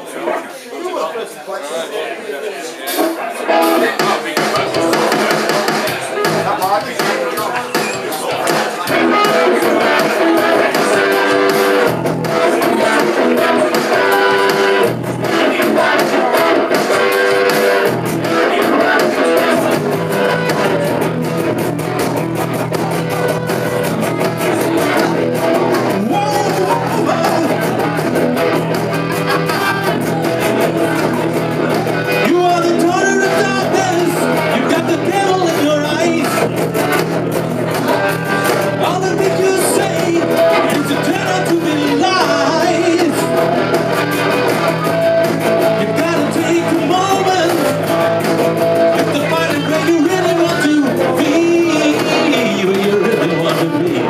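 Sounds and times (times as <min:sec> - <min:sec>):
electric guitars: 0:02.9 - 0:54.0
person singing: 0:03.5 - 0:54.0
bass line: 0:03.6 - 0:54.0.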